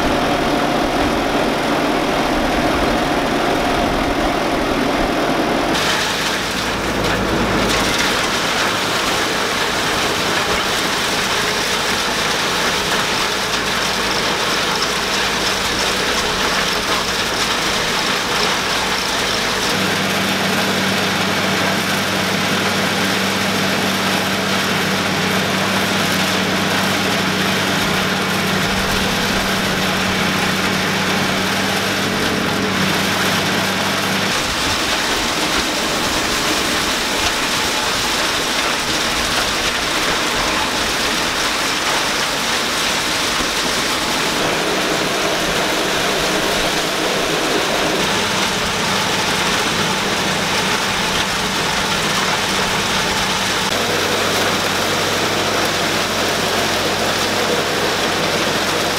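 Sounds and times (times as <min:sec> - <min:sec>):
silage blower hissing: 0:00.0 - 0:58.9
tractor engines idling: 0:00.0 - 0:58.9.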